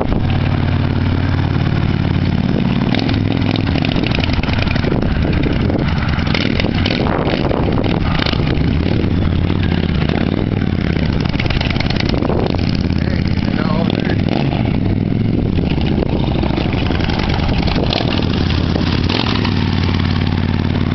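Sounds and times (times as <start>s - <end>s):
motorcycle trike engine running: 0.0s - 20.9s.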